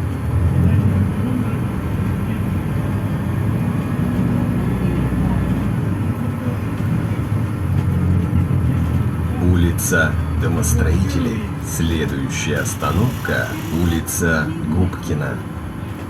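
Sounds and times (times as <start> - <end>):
bus engine drone: 0.0 - 16.0
road and tyre noise: 0.0 - 16.0.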